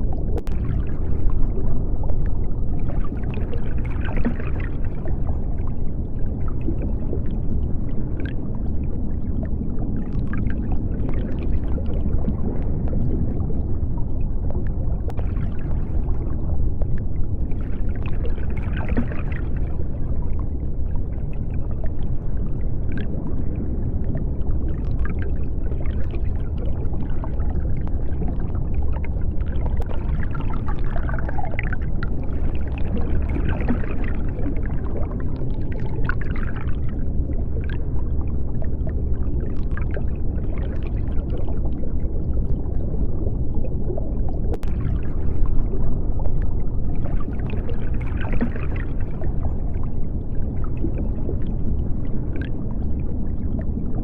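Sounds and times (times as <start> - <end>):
deep underwater rumble: 0.0 - 54.0.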